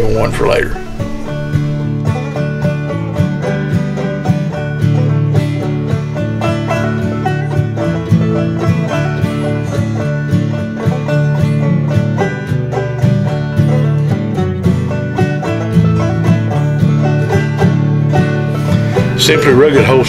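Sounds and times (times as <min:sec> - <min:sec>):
upbeat bluegrass banjo and guitar: 0:00.0 - 0:20.0.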